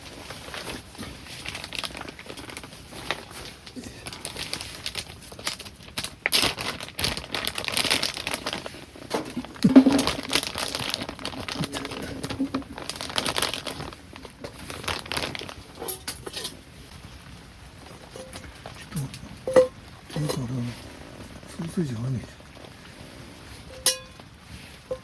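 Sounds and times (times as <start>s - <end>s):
plastic packaging crinkling: 0.0s - 22.8s.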